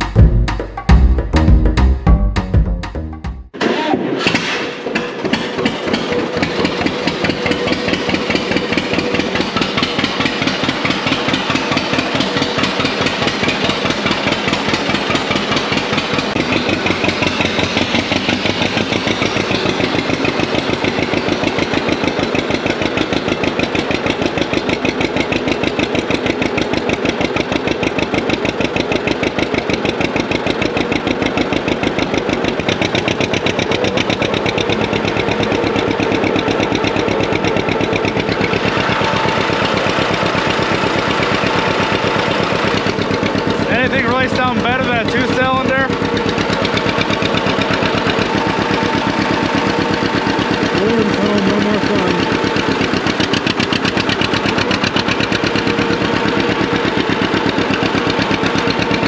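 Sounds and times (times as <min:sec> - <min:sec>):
tractor engine running: 0:00.0 - 0:03.6, 0:04.9 - 0:59.0.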